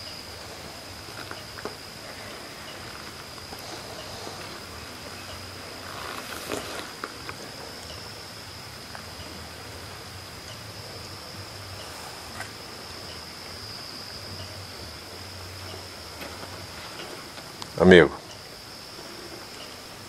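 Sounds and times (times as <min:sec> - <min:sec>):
faint hiss: 0:00.0 - 0:20.0
insects trilling: 0:00.0 - 0:20.0.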